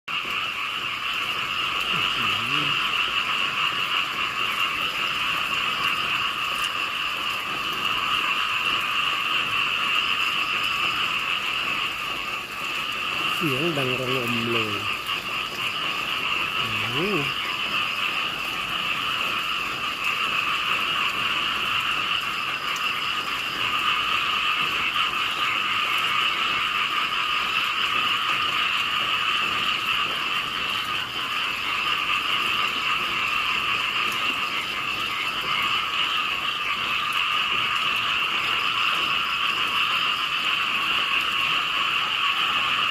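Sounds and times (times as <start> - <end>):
chorus of frogs calling: 0.1 - 42.9.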